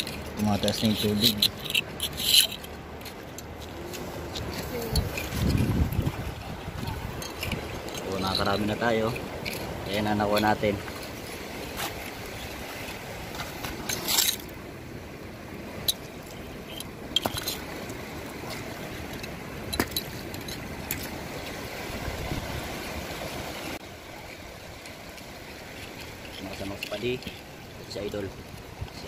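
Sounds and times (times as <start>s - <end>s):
water washing: 0.0s - 29.0s.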